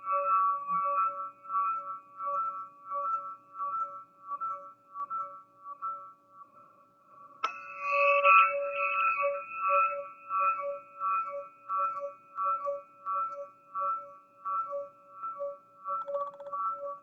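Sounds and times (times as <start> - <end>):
crystal singing pyramid ringing: 0.0 - 6.6, 7.4 - 17.0.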